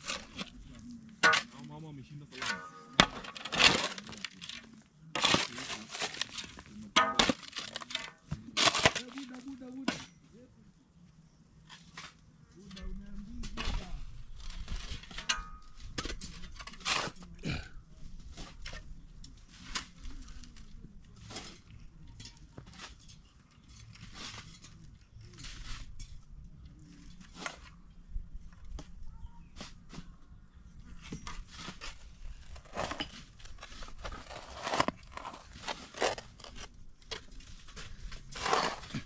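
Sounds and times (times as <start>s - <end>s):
crunching soil and gravel: 0.0s - 10.5s, 11.4s - 39.0s.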